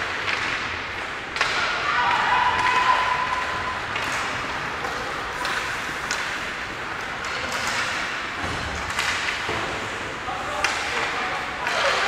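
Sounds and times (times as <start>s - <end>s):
sharp clacks of sticks and puck: 0.0s - 12.0s.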